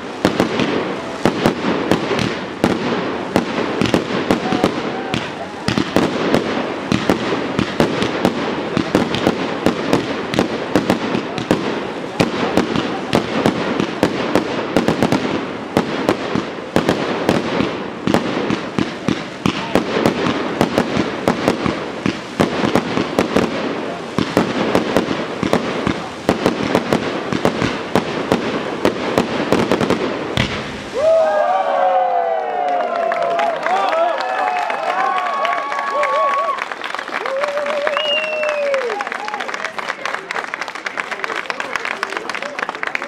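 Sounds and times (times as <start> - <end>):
fireworks pops and bangs: 0.0 - 31.2, 35.1 - 43.0
fireworks crackling: 0.0 - 43.0.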